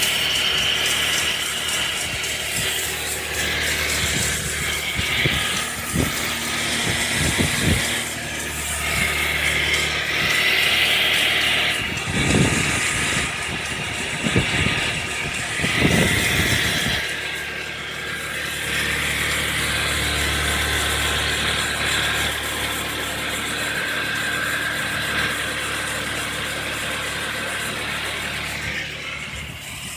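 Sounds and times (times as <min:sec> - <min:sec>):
car engine starting and idling: 0:00.0 - 0:29.9.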